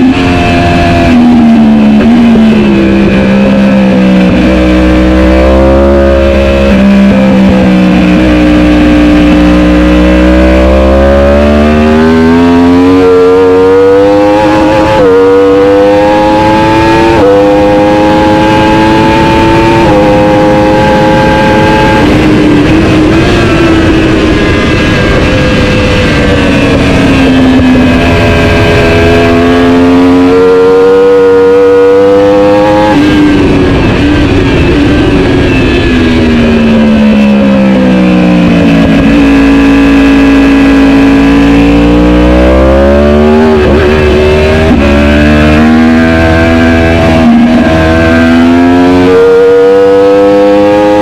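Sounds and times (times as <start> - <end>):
motorbike engine revving: 0.0 - 51.0.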